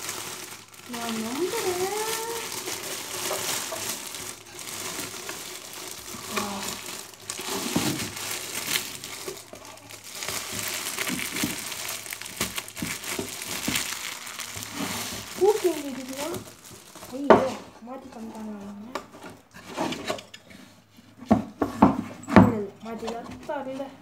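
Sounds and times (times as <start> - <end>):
plastic wrapping crinkling: 0.0 - 19.5.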